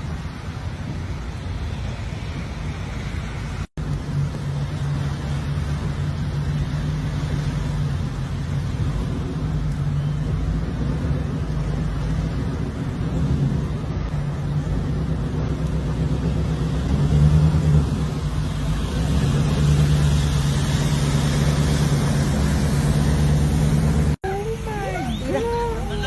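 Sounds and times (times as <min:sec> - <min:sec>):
constant noisy hiss: 0:00.0 - 0:26.0.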